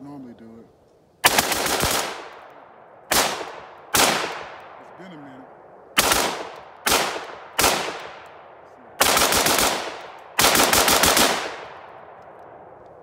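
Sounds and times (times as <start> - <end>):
rifle shots: 1.2 - 5.2, 6.0 - 12.6.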